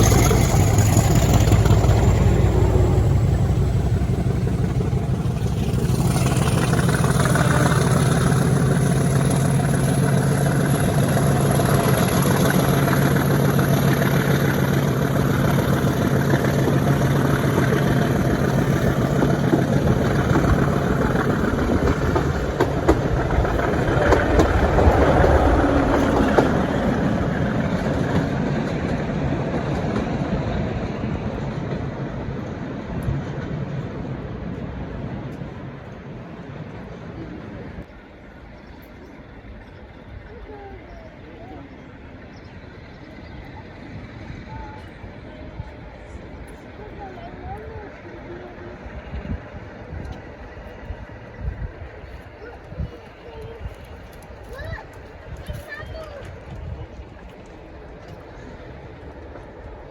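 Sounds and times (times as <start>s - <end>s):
train wheels clicking on track: 0.0s - 41.0s, 42.1s - 59.9s
diesel train engine drone: 0.0s - 59.9s.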